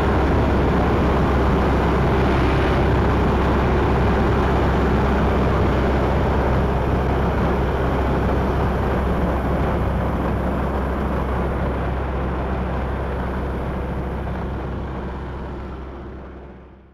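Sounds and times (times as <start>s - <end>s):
combine harvester rumbling: 0.0s - 16.9s.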